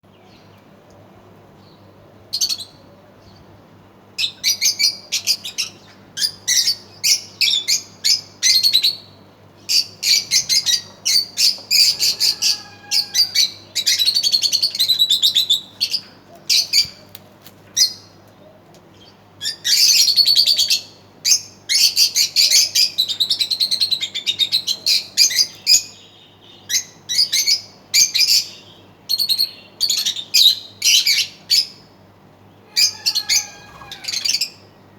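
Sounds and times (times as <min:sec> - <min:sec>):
lovebirds chirping and squawking: 0:04.2 - 0:17.2, 0:19.0 - 0:31.8, 0:32.4 - 0:34.9.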